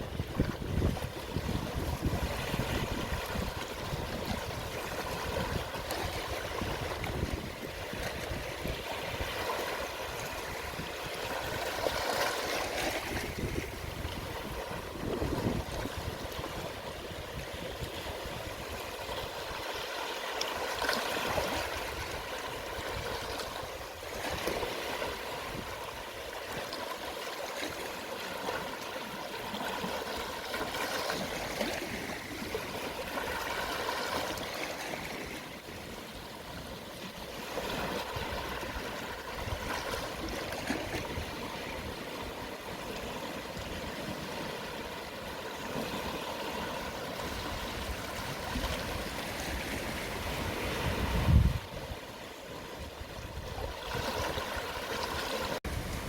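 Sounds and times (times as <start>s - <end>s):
small waves washing on shore: 0.0s - 56.0s.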